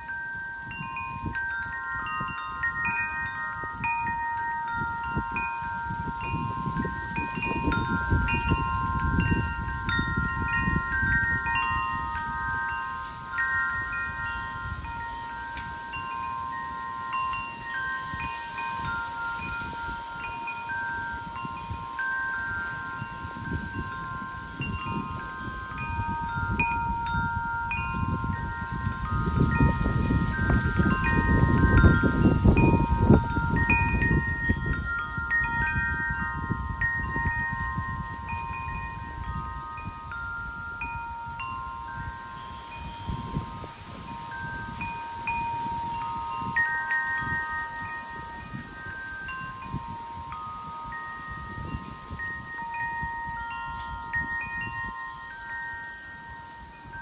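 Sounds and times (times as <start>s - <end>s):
wind chimes ringing: 0.0s - 57.0s
wind rumbling on microphone: 0.0s - 57.0s.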